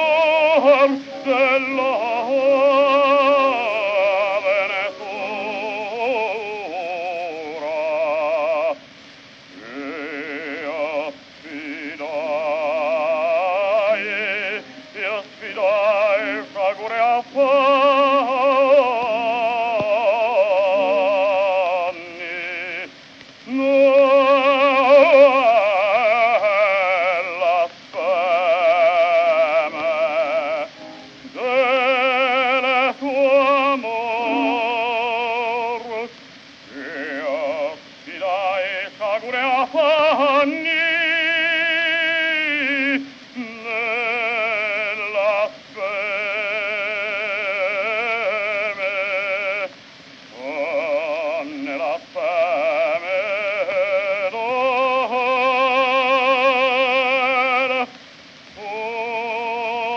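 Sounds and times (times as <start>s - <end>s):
operatic baritone singing: 0.0s - 59.9s.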